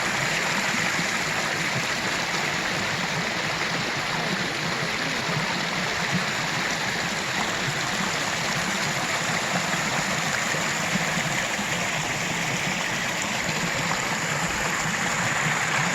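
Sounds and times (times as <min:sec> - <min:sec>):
stream rushing over rocks: 0:00.0 - 0:15.9.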